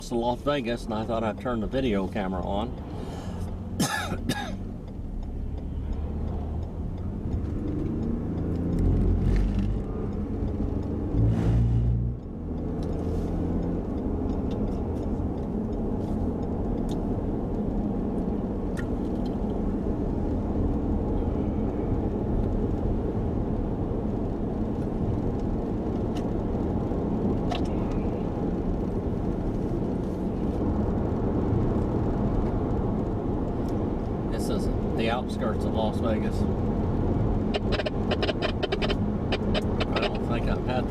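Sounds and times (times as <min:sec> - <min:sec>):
car cabin road and engine noise: 0:00.0 - 0:40.9
low rumbles: 0:00.0 - 0:40.9.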